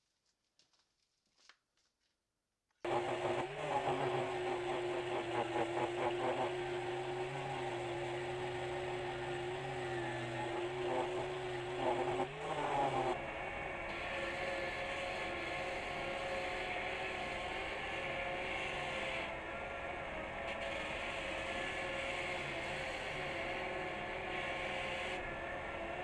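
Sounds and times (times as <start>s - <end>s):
electric motor humming: 2.9s - 26.0s.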